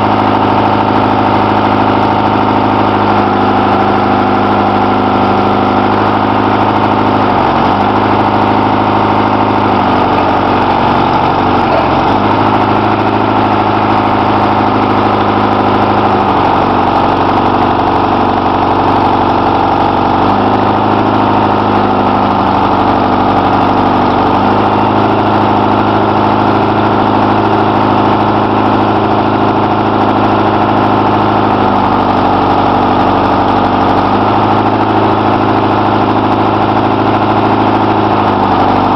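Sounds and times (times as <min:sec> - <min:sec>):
forestry machine engine running: 0:00.0 - 0:38.9.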